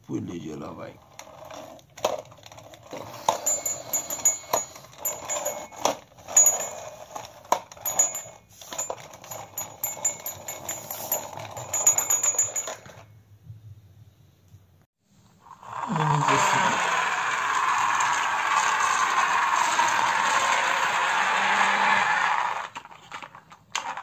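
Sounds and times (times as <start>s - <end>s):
plastic toy wheels rattling: 1.0s - 13.1s, 16.1s - 24.0s.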